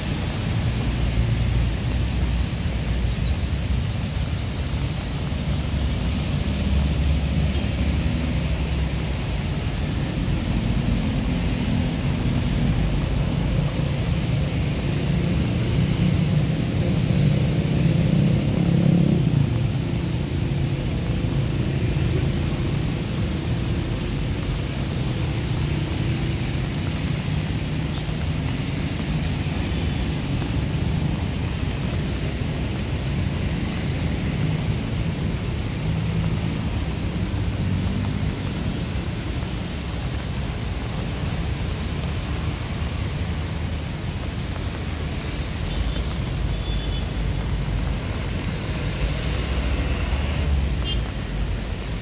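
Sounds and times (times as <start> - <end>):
tires hissing on wet road: 0.0 - 52.0
traffic rumble: 0.0 - 52.0.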